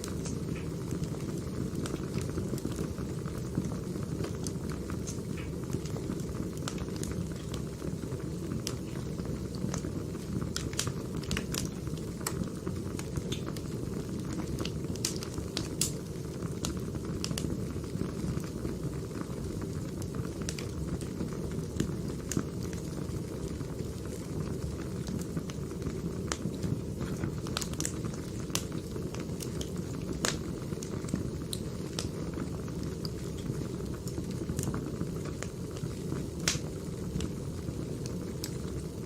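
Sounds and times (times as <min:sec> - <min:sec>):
firewood crackling and popping: 0:00.0 - 0:39.0
low rush of flame: 0:00.0 - 0:39.0.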